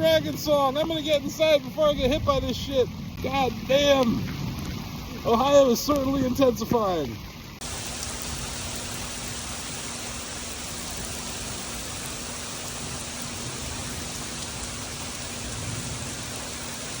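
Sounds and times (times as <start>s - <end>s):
rain falling steadily: 0.0s - 17.0s.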